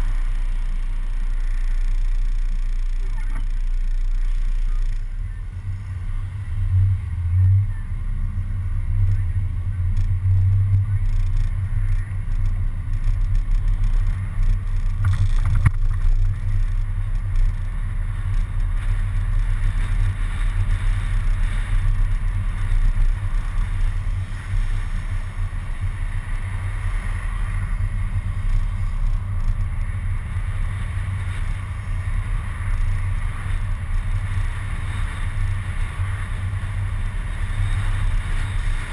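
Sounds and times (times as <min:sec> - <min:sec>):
bus engine rumble: 0:00.0 - 0:38.9
road noise: 0:00.0 - 0:38.9
wind noise: 0:04.4 - 0:38.9.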